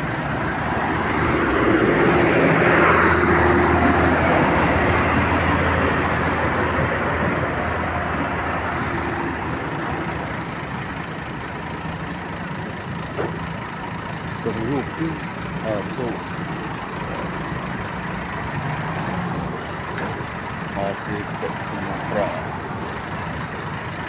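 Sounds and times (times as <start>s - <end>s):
heavy vehicle passing: 0.0s - 11.8s, 13.6s - 24.0s.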